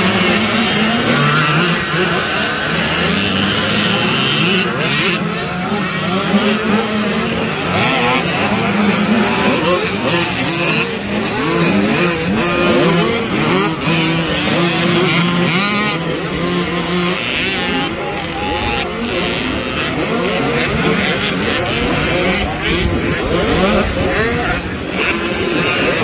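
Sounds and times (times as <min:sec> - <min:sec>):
dirt bikes revving past: 0:00.0 - 0:26.0
steady engine drone: 0:00.0 - 0:26.0.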